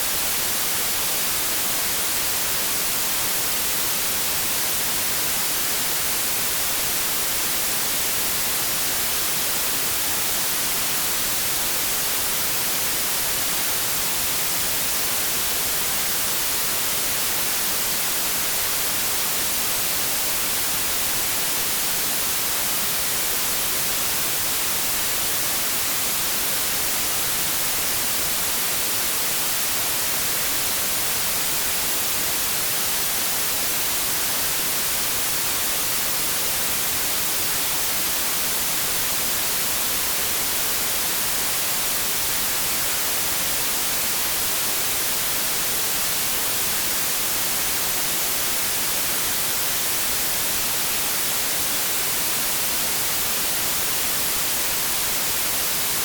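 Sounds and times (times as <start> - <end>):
white noise static hiss: 0.0 - 56.0.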